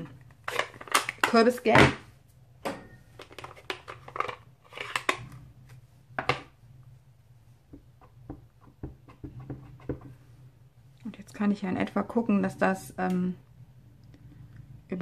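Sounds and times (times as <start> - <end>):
faint low hum: 1.9 - 15.0.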